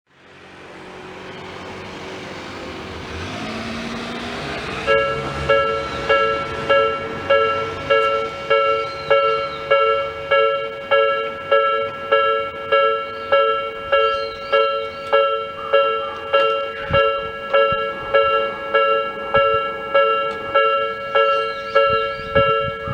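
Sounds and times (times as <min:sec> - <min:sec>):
level-crossing warning alarm ding: 0:01.4 - 0:22.9.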